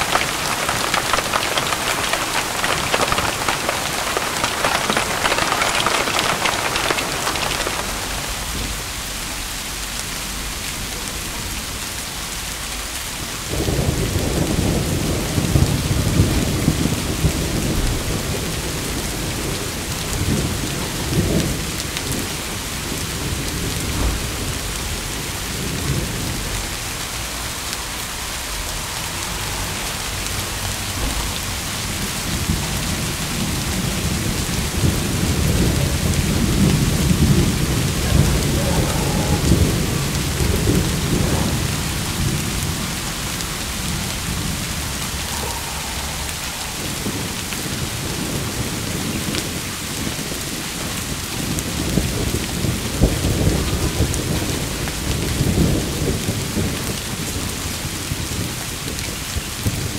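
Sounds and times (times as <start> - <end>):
thunder rumbling: 0.0 - 9.9, 13.5 - 58.4
steady rain: 0.0 - 59.9.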